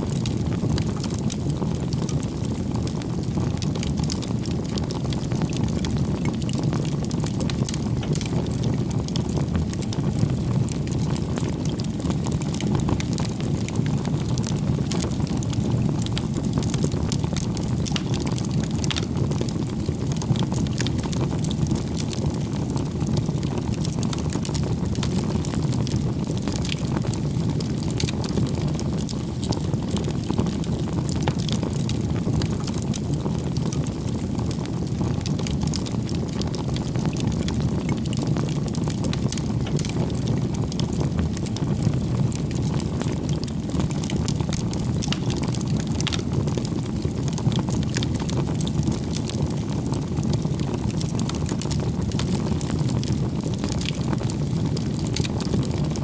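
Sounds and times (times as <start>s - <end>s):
burning wood crackling and popping: 0.0s - 56.0s
fire flames rumbling: 0.0s - 56.0s.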